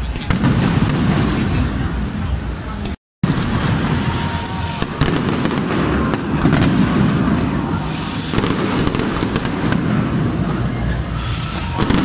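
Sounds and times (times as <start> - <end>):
fireworks cracks and bangs: 0.2 - 2.0, 3.2 - 12.0.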